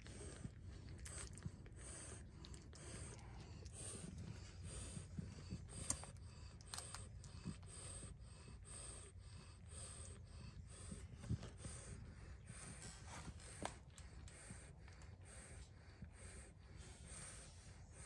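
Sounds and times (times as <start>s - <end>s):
dog breathing softly: 0.0s - 18.0s.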